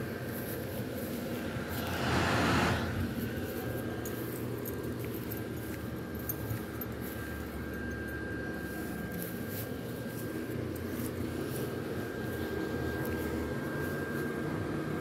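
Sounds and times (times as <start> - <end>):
electric blower fan humming: 0.0 - 15.0.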